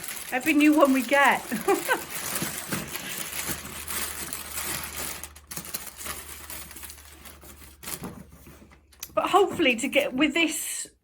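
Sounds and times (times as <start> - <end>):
objects clicking and rattling: 0.0 - 9.2.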